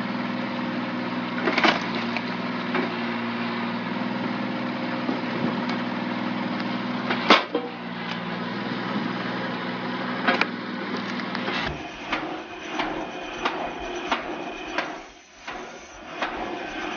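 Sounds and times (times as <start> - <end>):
machine motor running: 0.0 - 16.9.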